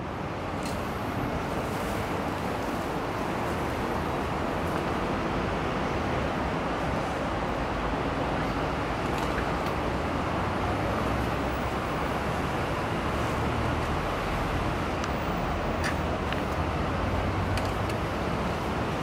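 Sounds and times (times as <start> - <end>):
road traffic roar: 0.0 - 19.0.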